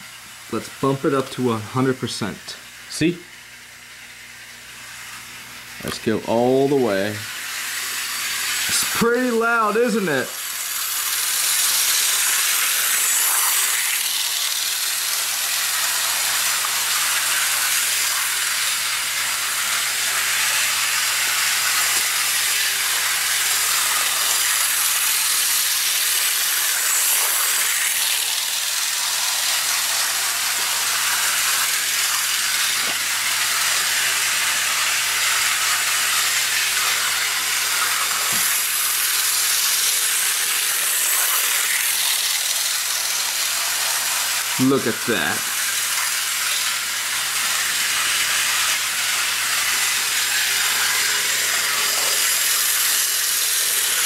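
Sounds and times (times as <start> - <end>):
model locomotive motor whirring: 0.0 - 54.0.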